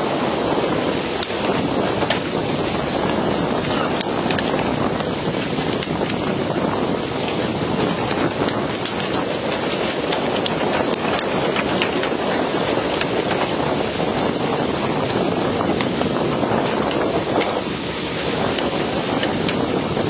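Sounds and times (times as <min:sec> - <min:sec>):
sea water splashing along hull: 0:00.0 - 0:20.0
wind on microphone: 0:00.0 - 0:20.0.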